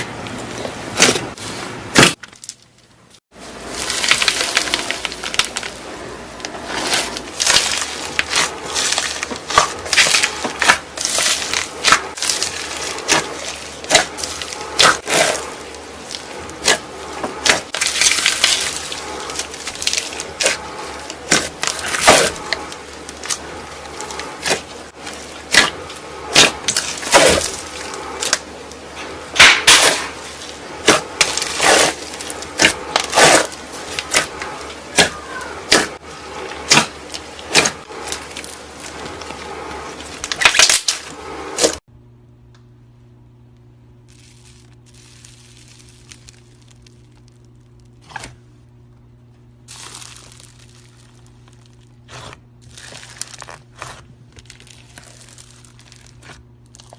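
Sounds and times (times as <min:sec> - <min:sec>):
sharp crackles and pops: 0:06.4 - 0:41.8, 0:44.1 - 0:48.2, 0:49.7 - 0:56.9.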